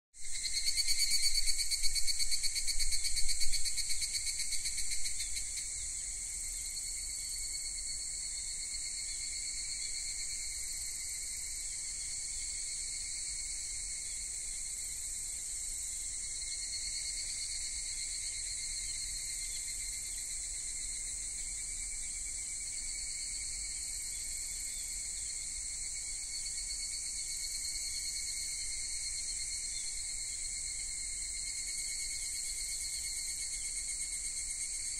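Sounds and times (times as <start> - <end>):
high-pitched insect chorus trilling: 0.2 - 34.9.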